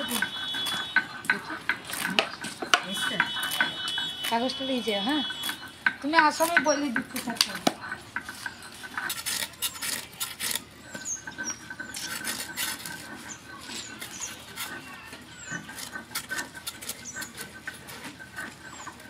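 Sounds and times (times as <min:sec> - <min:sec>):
metal kitchen tools scraping: 0:00.0 - 0:19.0.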